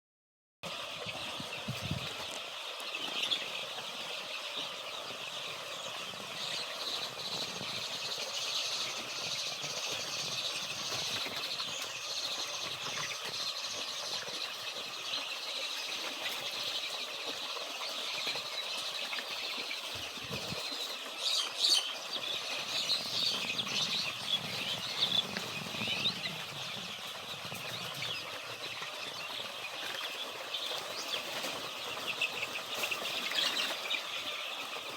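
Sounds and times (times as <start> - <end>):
chicks peeping: 0.6 - 34.9.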